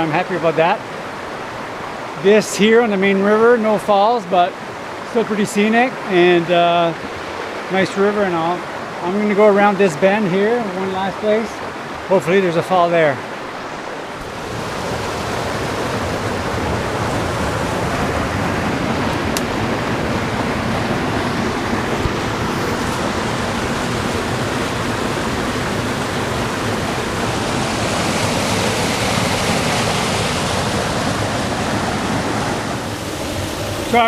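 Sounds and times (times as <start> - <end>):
river water rushing over rocks: 4.3 - 34.0.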